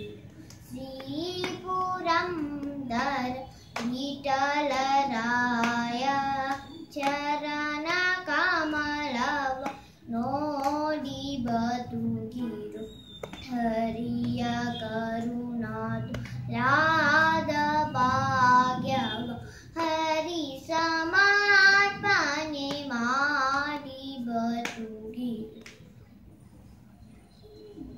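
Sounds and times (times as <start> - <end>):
girl singing unaccompanied: 0.0 - 25.8.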